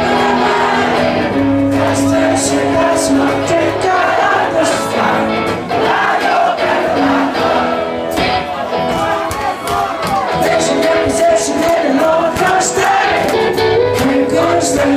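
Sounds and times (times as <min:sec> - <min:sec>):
crowd singing along: 0:00.0 - 0:09.1, 0:10.3 - 0:14.9
rock band with electric guitars: 0:00.0 - 0:14.9.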